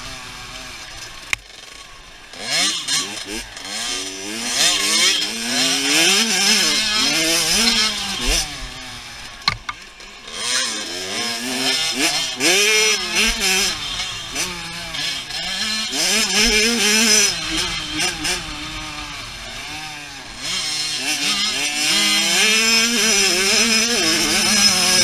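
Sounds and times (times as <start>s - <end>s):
two-stroke dirt bike engine revving: 0.0s - 25.0s.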